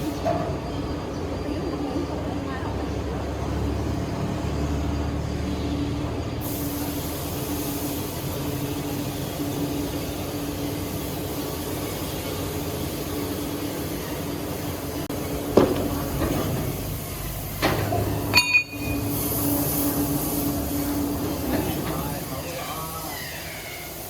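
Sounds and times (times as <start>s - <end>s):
heavy machinery humming: 0.0s - 24.0s.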